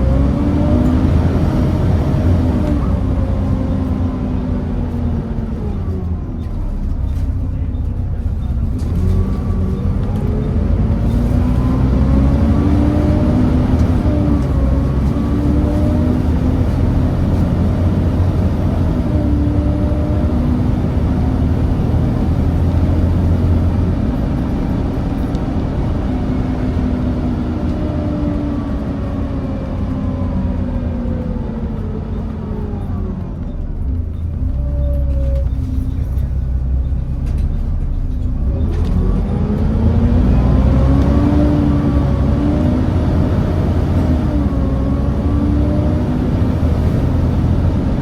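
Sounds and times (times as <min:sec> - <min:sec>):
bus diesel engine running: 0:00.0 - 0:48.0.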